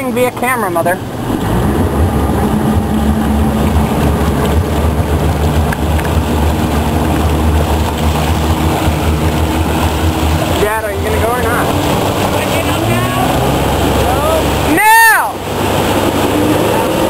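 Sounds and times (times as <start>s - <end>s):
motorboat engine humming: 0.0s - 17.0s
wind and water rushing: 0.0s - 17.0s.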